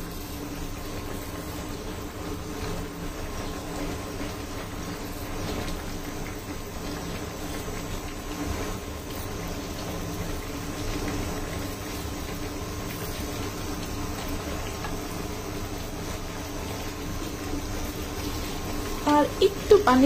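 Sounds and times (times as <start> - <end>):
curry simmering and bubbling: 0.0 - 19.9
steady hum: 0.0 - 20.0.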